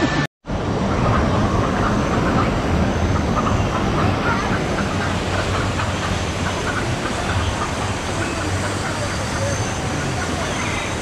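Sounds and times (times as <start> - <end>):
whitewater rushing over rocks: 0.0 - 11.0.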